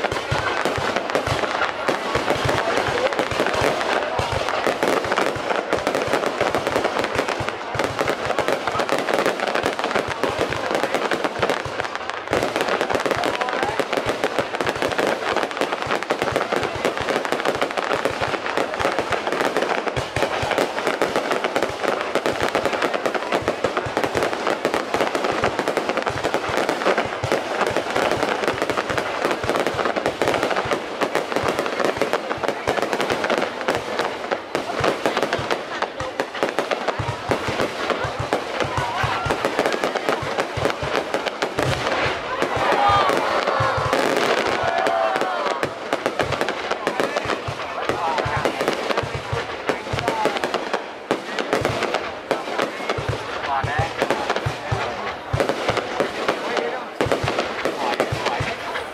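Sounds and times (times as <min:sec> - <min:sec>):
fireworks cracking and banging: 0:00.0 - 0:58.9.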